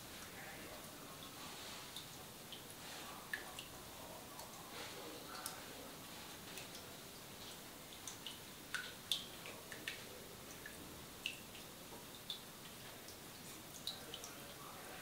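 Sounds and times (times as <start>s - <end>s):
faint hiss: 0.0s - 15.0s
water dripping into basin: 0.0s - 15.0s.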